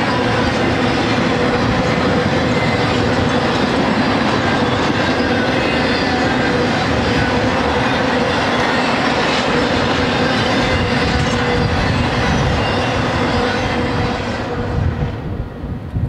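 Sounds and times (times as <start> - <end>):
constant whine: 0.0 - 16.0
steel wheels rumbling on track: 0.0 - 16.0.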